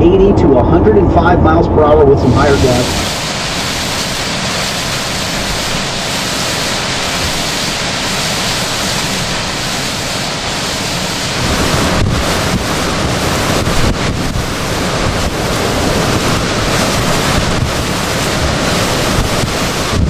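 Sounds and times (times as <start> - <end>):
hurricane winds with driving rain: 0.0 - 20.0.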